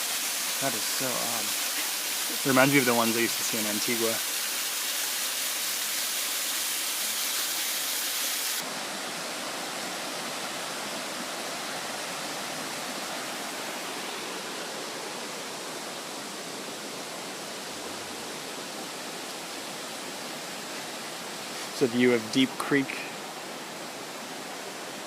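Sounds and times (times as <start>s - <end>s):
creek flowing over rocks: 0.0s - 25.0s.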